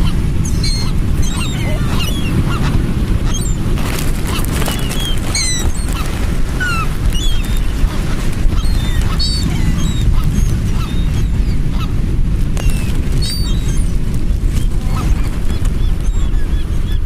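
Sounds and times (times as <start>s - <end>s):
gulls calling: 0.0s - 17.0s
steady low rumble: 0.0s - 17.0s.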